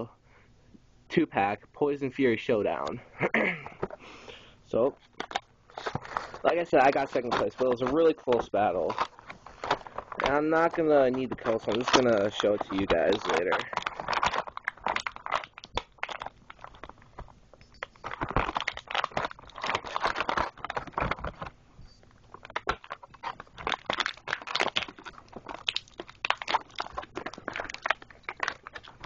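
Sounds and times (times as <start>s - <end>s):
toy packaging crinkling: 5.0s - 21.6s, 22.2s - 29.0s.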